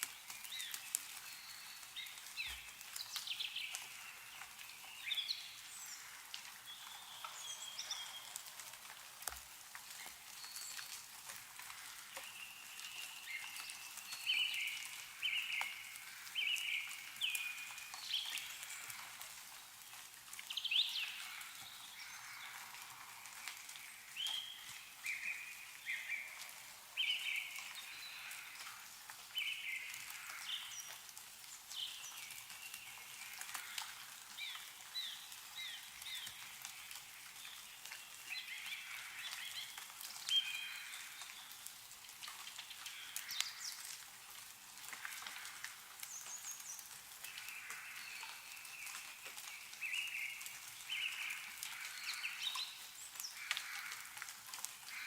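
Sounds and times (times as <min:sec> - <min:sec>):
small birds chirping: 0:00.0 - 0:44.0, 0:44.8 - 0:55.0
meltwater dripping from trees: 0:00.0 - 0:55.0.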